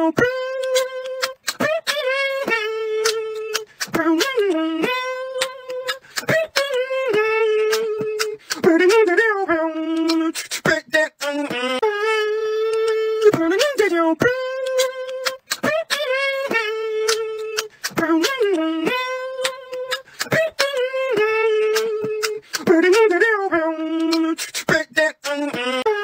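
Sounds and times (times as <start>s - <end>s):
percussive beatbox hits: 0.0s - 11.8s, 12.4s - 26.0s
mouth clicks: 0.2s - 9.0s, 9.9s - 11.8s, 12.6s - 23.1s, 23.9s - 25.5s.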